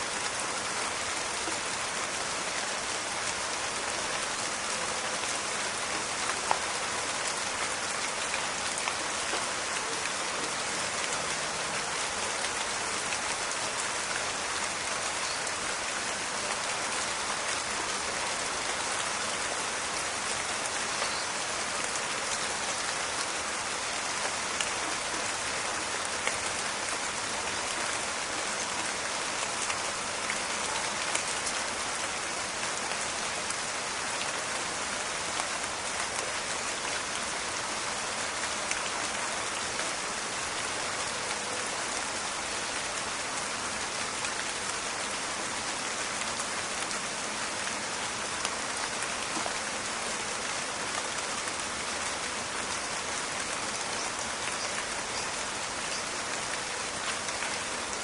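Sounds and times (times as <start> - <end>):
rain falling in a forest: 0.0 - 58.0.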